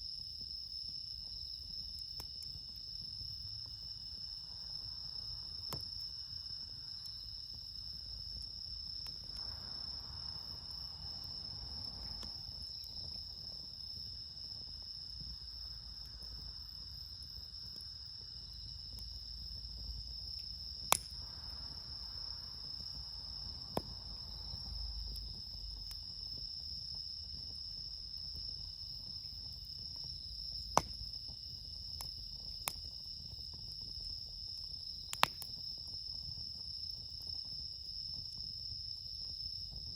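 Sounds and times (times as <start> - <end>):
crickets chirping: 0.0 - 39.9
campfire popping: 0.2 - 39.9.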